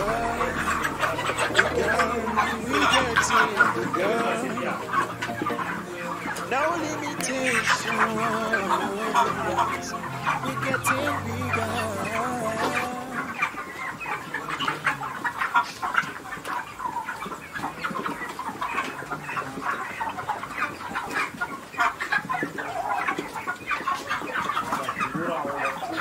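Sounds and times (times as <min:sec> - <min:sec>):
chickens clucking and chirping: 0:00.0 - 0:26.0.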